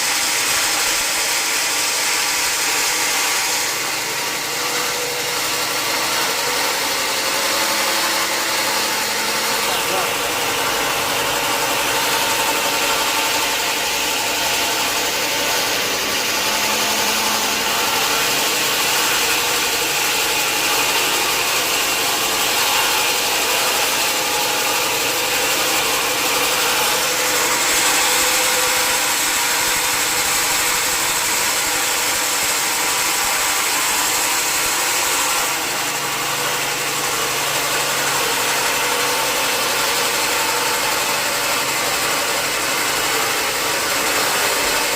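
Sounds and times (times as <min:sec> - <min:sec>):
sawmill machinery running: 0:00.0 - 0:44.9.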